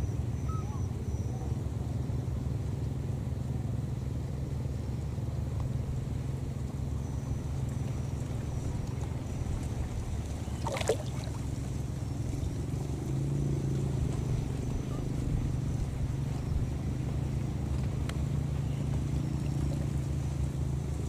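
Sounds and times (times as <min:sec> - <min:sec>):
low motor drone: 0:01.6 - 0:21.0.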